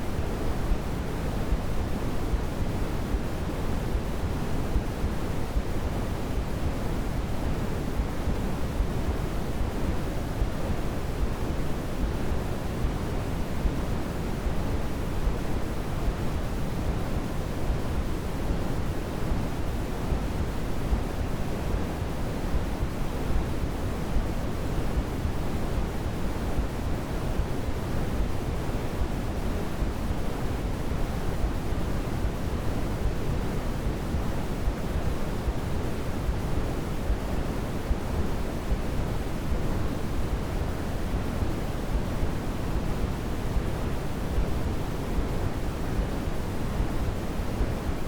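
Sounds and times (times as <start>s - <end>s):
white noise hiss: 0.0s - 48.0s.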